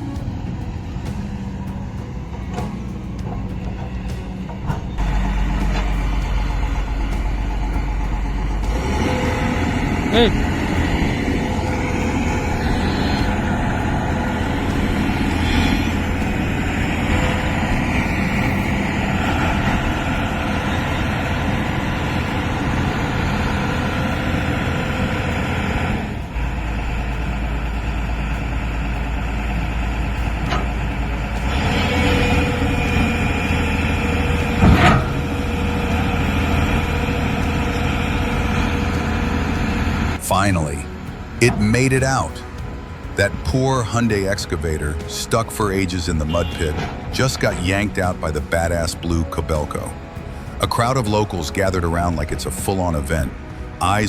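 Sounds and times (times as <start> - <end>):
excavator engines running: 0.0 - 54.0.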